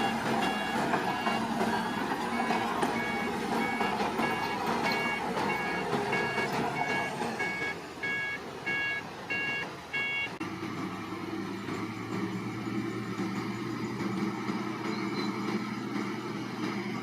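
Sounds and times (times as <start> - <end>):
reversing alarm beeping: 0.0 - 10.4, 12.0 - 17.0
diesel engine running: 0.0 - 17.0.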